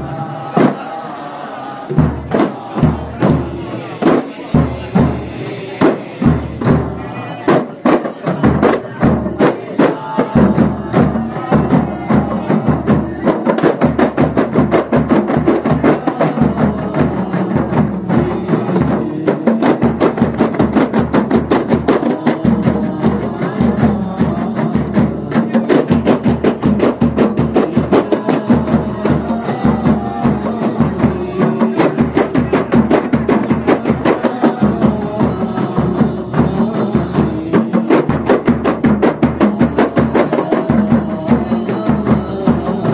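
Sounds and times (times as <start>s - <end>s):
frame drums ensemble: 0.0s - 42.9s.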